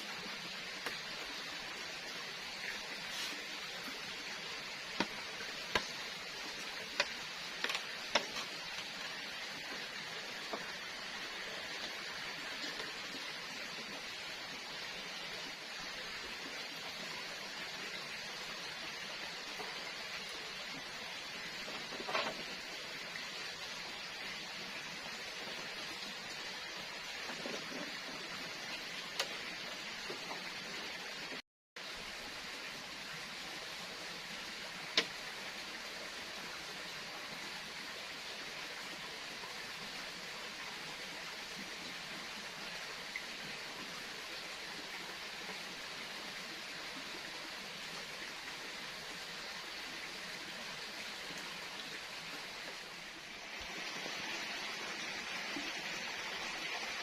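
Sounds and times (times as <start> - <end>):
forest ambience hiss: 0.0 - 57.0.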